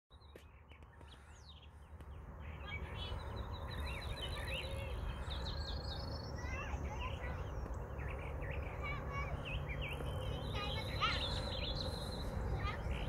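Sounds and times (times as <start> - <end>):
birds chirping and singing: 0.1 - 13.0.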